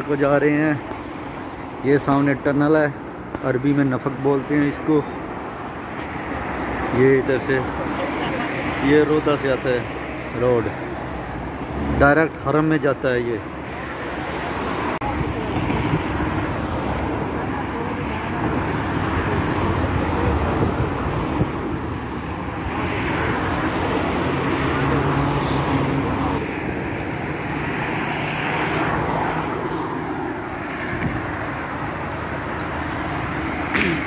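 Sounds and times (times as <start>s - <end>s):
cars driving past: 0.0s - 34.0s.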